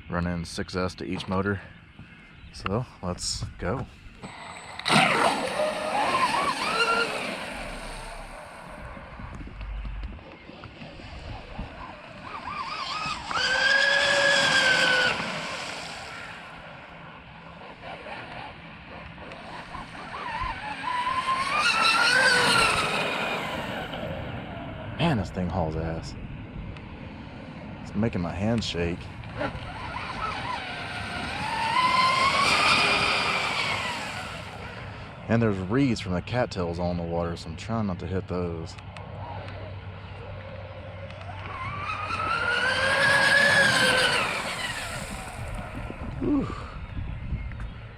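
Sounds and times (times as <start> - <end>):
rc speedboat motor whine: 1.2 - 36.2, 38.1 - 47.9.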